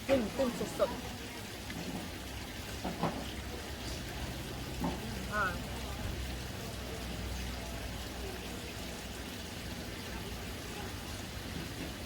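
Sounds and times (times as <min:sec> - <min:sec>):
steady water noise: 0:00.0 - 0:12.0.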